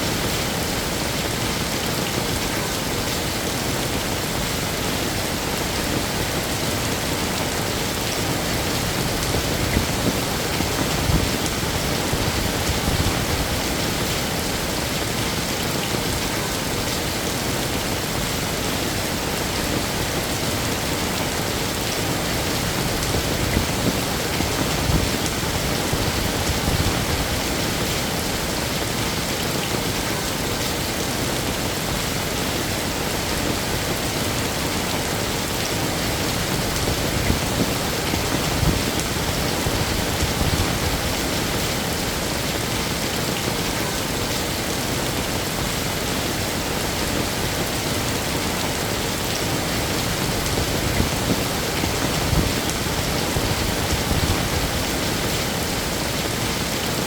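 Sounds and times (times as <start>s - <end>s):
heavy rain on hard surfaces: 0.0s - 57.0s.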